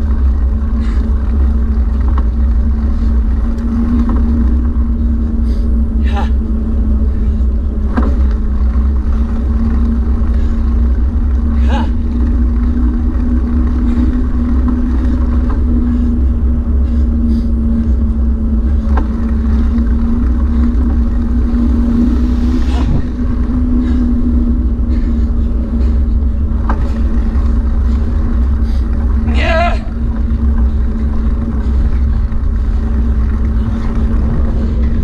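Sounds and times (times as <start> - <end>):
steady motor hum: 0.0 - 35.0
wind rumble on microphone: 0.0 - 35.0.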